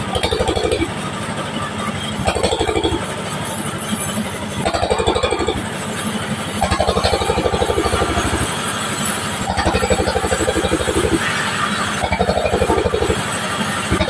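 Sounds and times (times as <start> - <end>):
sawmill saw cutting timber: 0.0 - 14.0.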